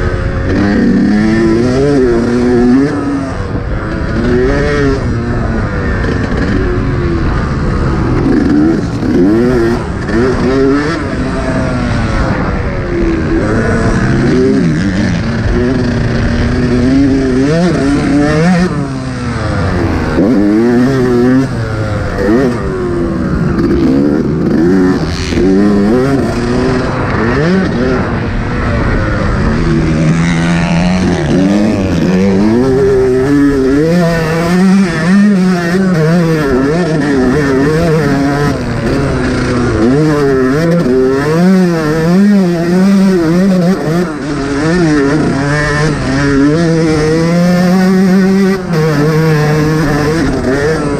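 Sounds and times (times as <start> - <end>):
two-stroke motocross engine revving: 0.0 - 50.9.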